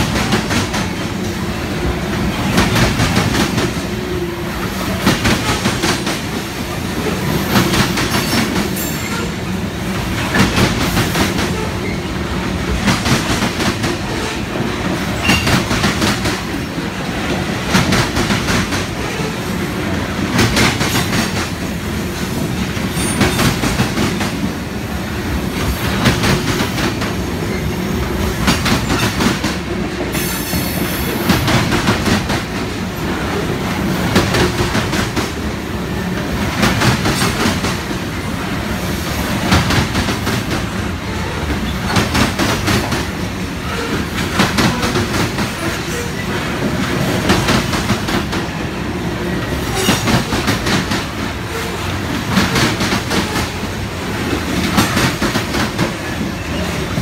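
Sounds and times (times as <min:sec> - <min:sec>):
train wheels clacking: 0:00.0 - 0:01.4, 0:02.1 - 0:24.6, 0:25.5 - 0:35.5, 0:36.1 - 0:48.7, 0:49.4 - 0:57.0
freight train rumbling past: 0:00.0 - 0:57.0.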